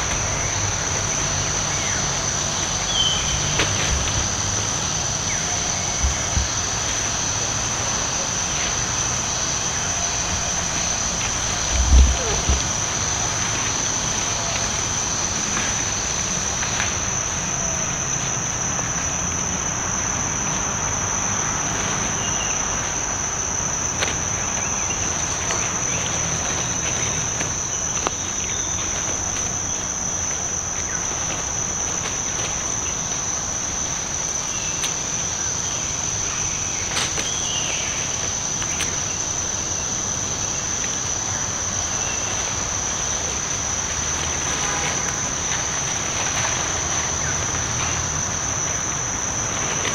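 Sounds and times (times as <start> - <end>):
background hiss: 0.0 - 49.9
insect chorus drone: 0.0 - 49.9.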